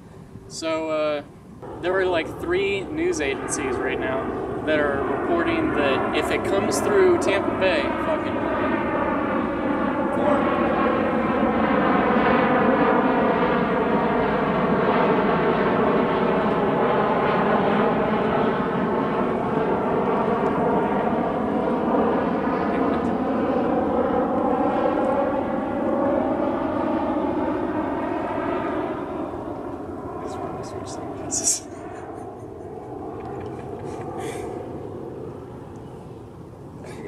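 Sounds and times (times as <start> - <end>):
propeller airplane flying over: 0.0 - 37.0.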